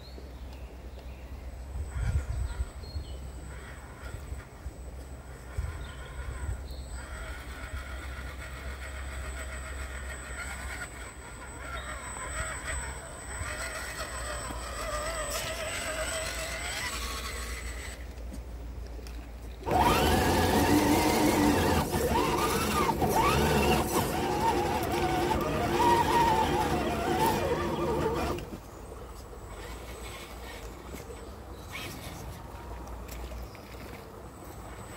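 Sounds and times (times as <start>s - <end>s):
rc truck electric motor whining: 3.4s - 33.2s.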